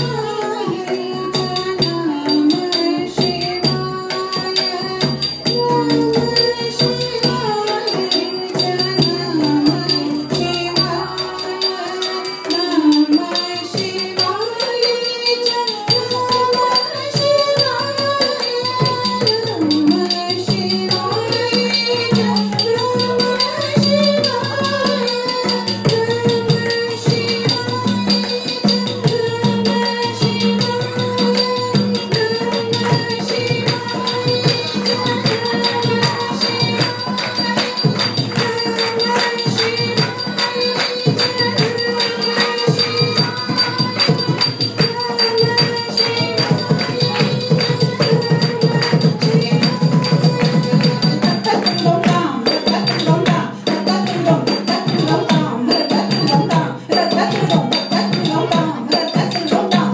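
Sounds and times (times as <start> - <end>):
jingling bells: 0.0 - 59.9.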